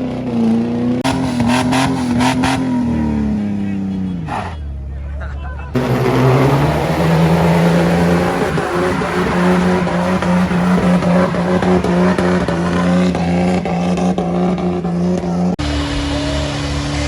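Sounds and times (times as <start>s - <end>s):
diesel truck engine running hard: 0.0s - 17.0s
rough rushing noise: 1.0s - 4.7s, 5.8s - 17.0s.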